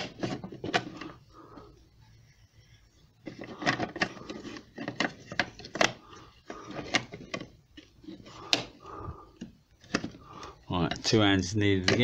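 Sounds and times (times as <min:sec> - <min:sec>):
plastic parts clicking and knocking: 0:00.0 - 0:01.2, 0:03.2 - 0:12.0.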